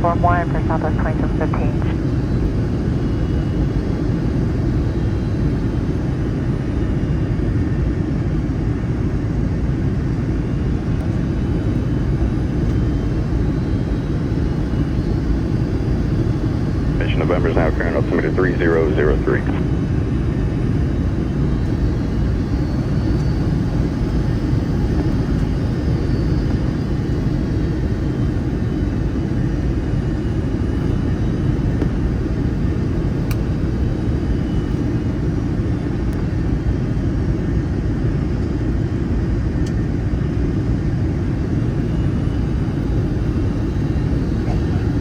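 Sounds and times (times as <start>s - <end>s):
aircraft cabin engine rumble: 0.0s - 45.0s.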